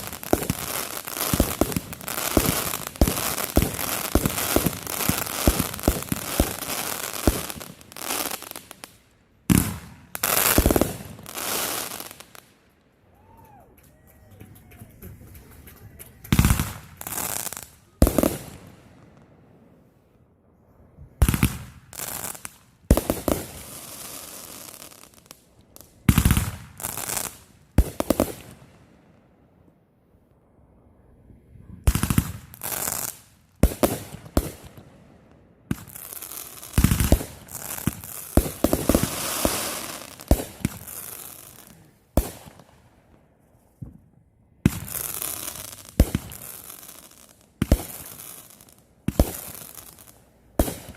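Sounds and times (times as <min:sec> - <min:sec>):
fireworks bangs and crackling: 0:00.0 - 0:12.6, 0:14.2 - 0:19.4, 0:21.0 - 0:28.9, 0:31.8 - 0:43.2, 0:44.6 - 0:50.9.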